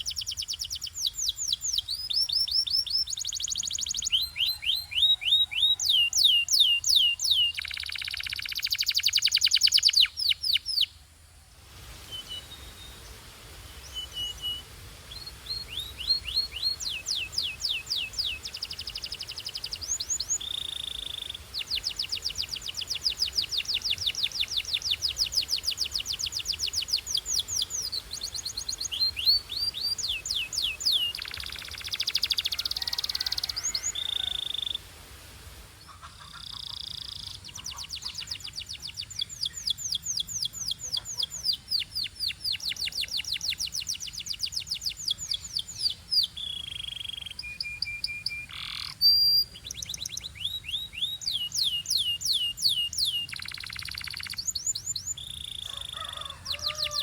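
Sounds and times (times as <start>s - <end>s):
canary singing: 0.0s - 10.9s, 13.8s - 34.8s, 35.9s - 57.0s.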